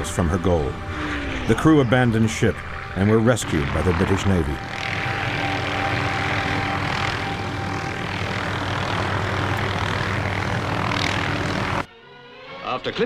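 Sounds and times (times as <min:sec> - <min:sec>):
aircraft engine droning: 0:00.0 - 0:13.0
constant low hum: 0:00.0 - 0:13.0.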